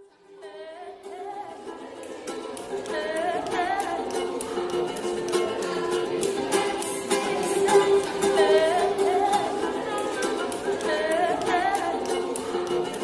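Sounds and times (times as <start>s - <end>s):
ukulele strumming: 0.0s - 13.0s
woman singing: 0.2s - 13.0s.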